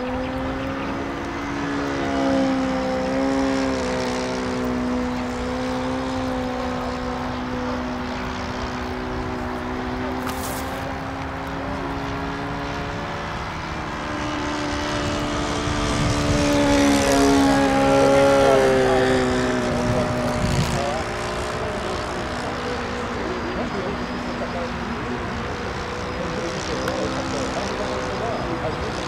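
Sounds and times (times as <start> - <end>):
model airplane motor droning: 0.0 - 29.0.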